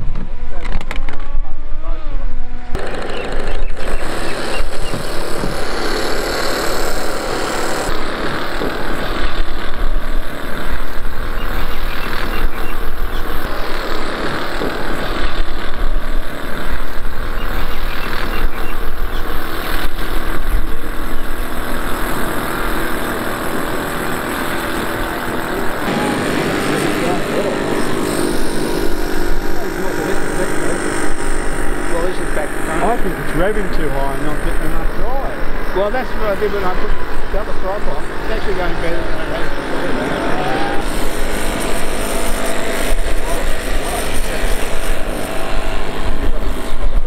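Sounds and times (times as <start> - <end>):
steam boat rushing noise: 2.7 - 47.0.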